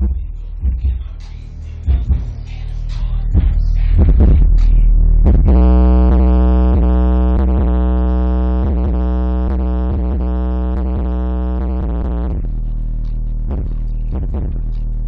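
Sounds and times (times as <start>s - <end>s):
bass-heavy electronic music: 0.0s - 15.0s.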